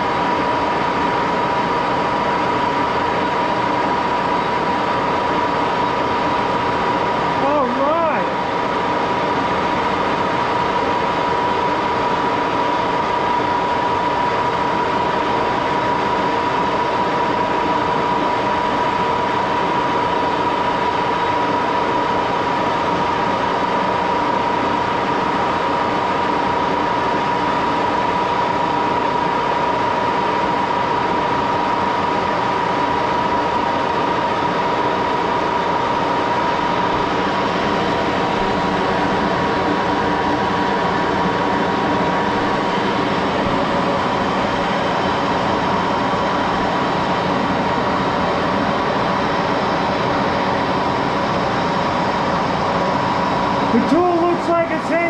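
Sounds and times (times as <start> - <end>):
lathe running with high whine: 0.0 - 55.0.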